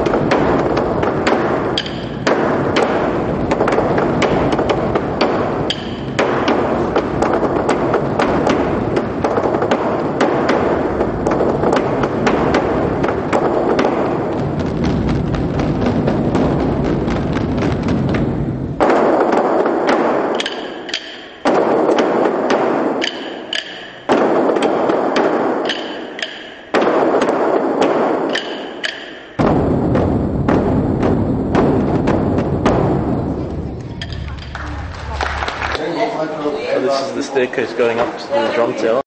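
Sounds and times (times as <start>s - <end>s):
large drums playing: 0.0s - 35.8s.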